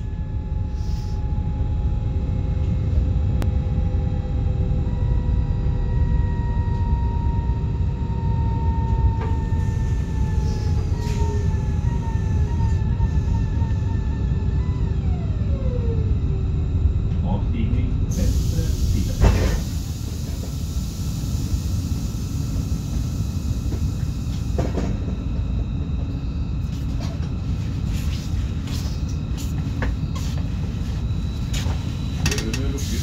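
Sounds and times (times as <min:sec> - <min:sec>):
electric train motors whining: 0:00.0 - 0:33.0
train running rumble: 0:00.0 - 0:33.0.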